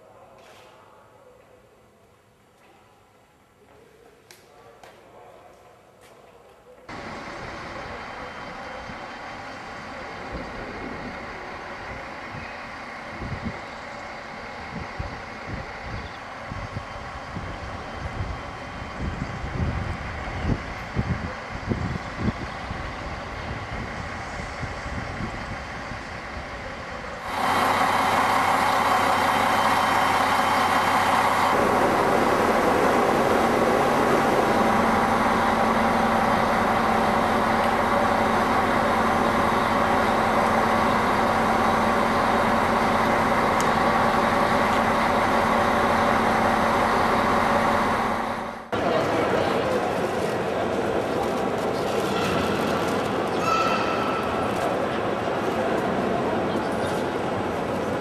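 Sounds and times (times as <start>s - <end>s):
diesel railcar engine: 6.8s - 58.0s.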